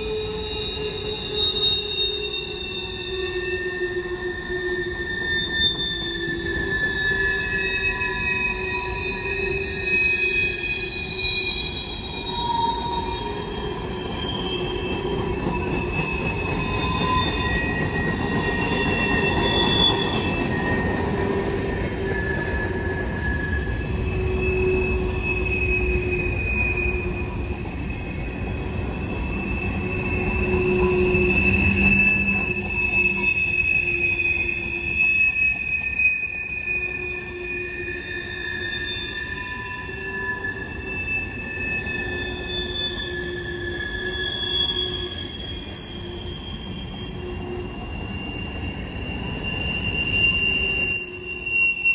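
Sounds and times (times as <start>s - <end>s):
train wheels squealing: 0.0s - 51.9s
wheels rumbling on rail: 0.0s - 51.9s.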